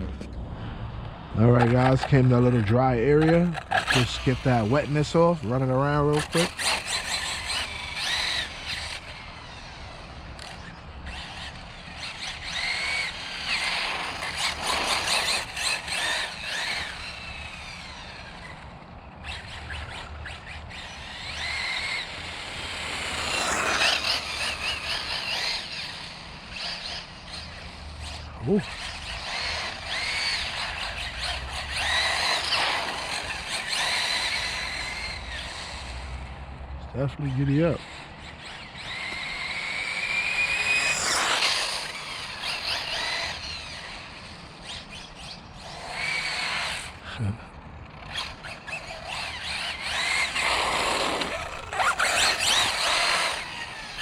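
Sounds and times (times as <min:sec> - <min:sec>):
electric motor whining: 0:01.6 - 0:36.4, 0:37.0 - 0:54.0.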